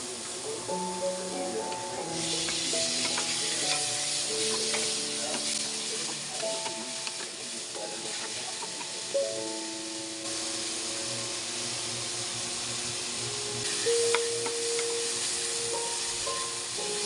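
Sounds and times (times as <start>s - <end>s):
background music with held notes: 0.0s - 17.0s
sizzling in a hot wok: 0.0s - 17.0s.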